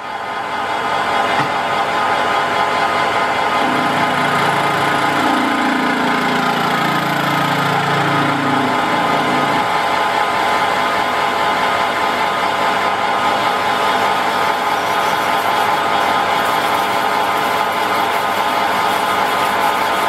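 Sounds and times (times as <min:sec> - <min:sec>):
metal lathe humming: 0:02.2 - 0:20.0.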